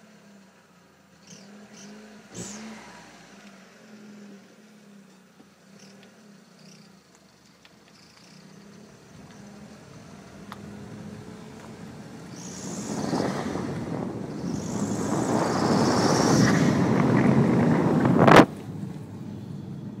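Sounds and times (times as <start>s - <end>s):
car engine revving: 1.1s - 19.2s.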